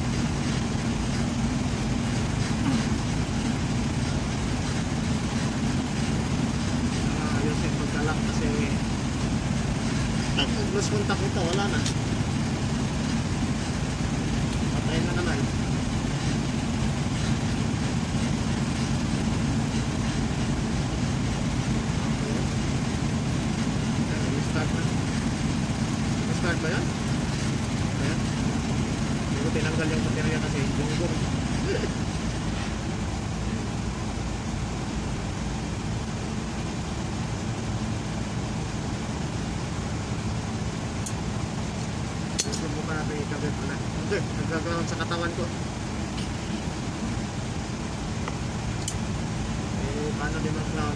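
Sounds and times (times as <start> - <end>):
engine idling: 0.0 - 50.9.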